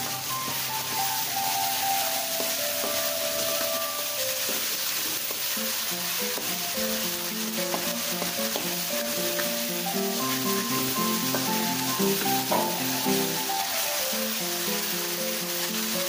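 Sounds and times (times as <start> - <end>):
background music with melody: 0.0 - 16.0
paste sizzling in hot oil: 0.0 - 16.0.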